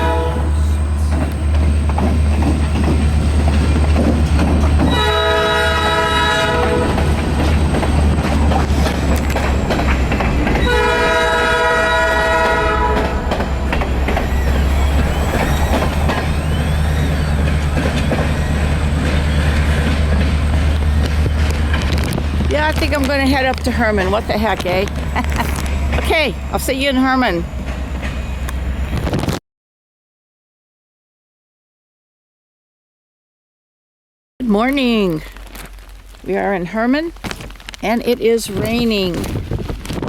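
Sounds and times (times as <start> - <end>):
diesel locomotive engine rumble: 0.0 - 29.4, 34.4 - 40.0.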